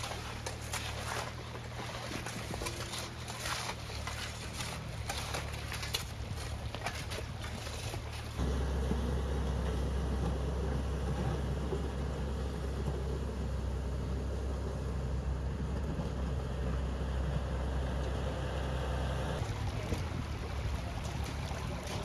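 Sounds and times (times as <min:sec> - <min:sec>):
floodwater rushing: 0:00.0 - 0:14.6, 0:17.7 - 0:22.0
heavy-equipment engine running: 0:00.0 - 0:22.0.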